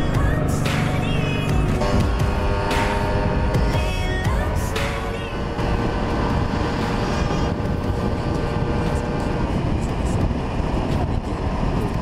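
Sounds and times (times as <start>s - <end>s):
wind rumble on microphone: 1.4s - 12.0s.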